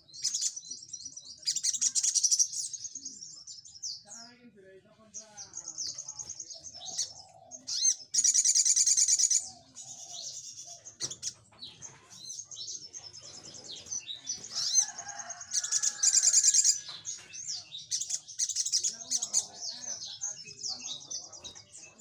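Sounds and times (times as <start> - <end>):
bird singing high chirps: 0.0 - 22.0.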